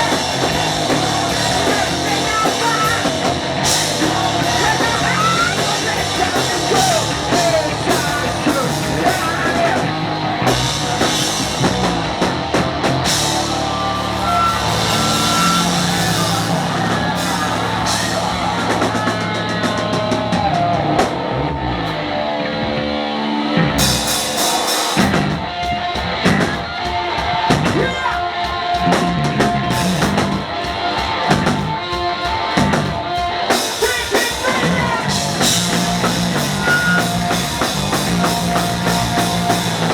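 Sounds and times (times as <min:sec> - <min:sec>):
drums and cymbals: 0:00.0 - 0:21.3, 0:23.8 - 0:39.9
electric guitar lines: 0:00.0 - 0:27.7, 0:28.3 - 0:39.9
hard rock band playing live: 0:00.0 - 0:39.9.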